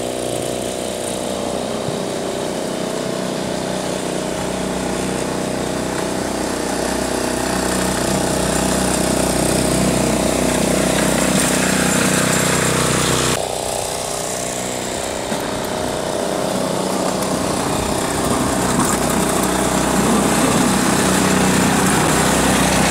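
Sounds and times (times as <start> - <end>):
small tractor engine running: 0.0 - 22.9.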